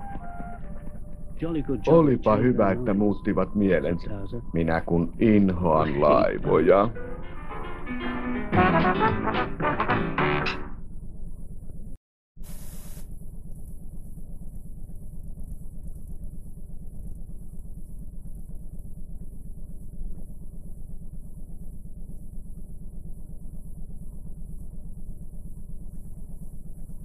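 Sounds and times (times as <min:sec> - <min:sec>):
faint high whine: 0:00.0 - 0:08.3, 0:12.4 - 0:27.0
low buzzing hum: 0:00.0 - 0:27.0.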